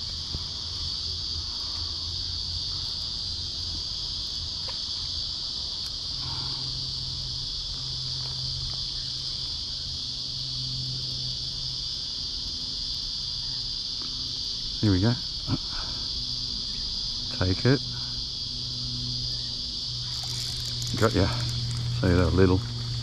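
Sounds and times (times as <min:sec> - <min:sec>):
shrill insect chorus: 0:00.0 - 0:23.0.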